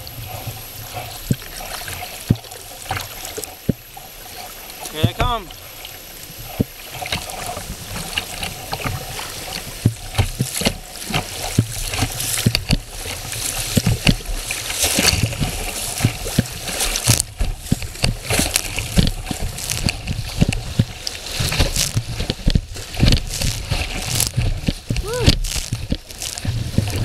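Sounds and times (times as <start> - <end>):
water slapping kayak: 0.0 - 27.0
whitewater rushing and splashing: 0.0 - 27.0.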